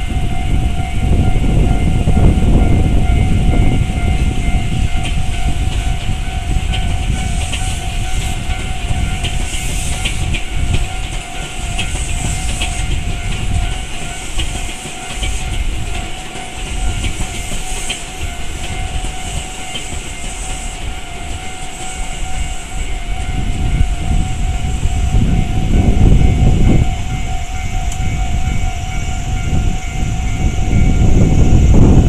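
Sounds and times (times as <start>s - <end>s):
level crossing warning bell: 0.0s - 32.0s
train rumbling and wheel clatter: 0.0s - 32.0s.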